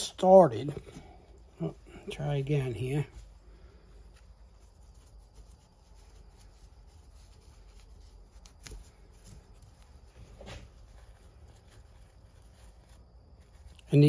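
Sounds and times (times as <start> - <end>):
fabric wrap rustling and scraping: 0.7 - 14.0.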